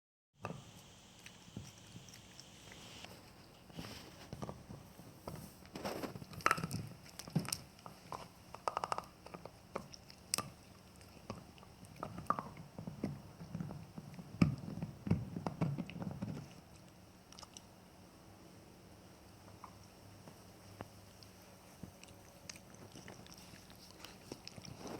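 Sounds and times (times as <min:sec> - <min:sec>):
dog gnawing on a bone: 0:00.5 - 0:17.7, 0:20.8 - 0:24.9.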